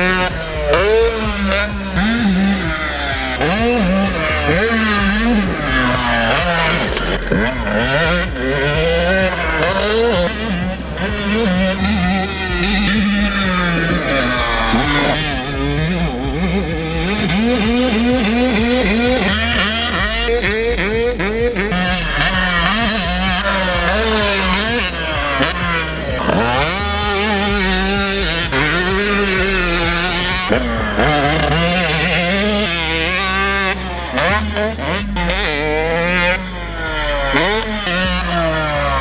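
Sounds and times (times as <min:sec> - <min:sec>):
motocross engine revving: 0:00.0 - 0:39.0.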